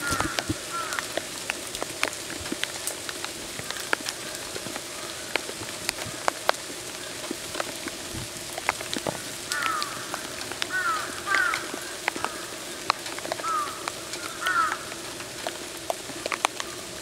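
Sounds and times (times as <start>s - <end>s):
rain drops ticking: 0.0s - 17.0s.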